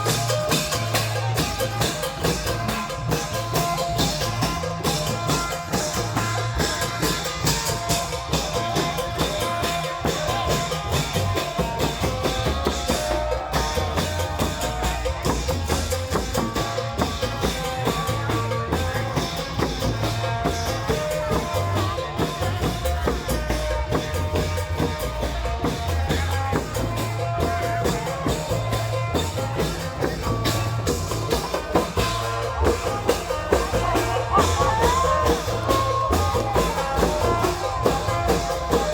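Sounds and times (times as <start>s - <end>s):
low drum beats: 0.0s - 38.9s
percussion: 0.0s - 38.9s.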